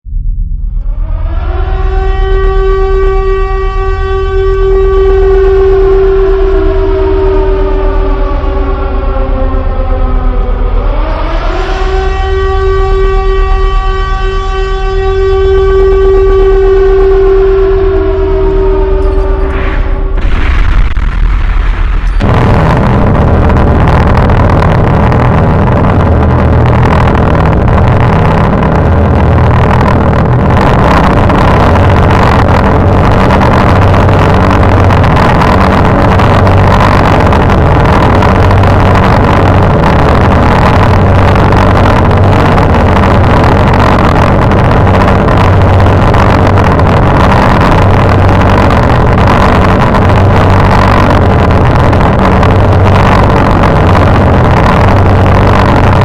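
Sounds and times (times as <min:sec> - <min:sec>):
harsh noise drone music: 0:00.0 - 0:56.0.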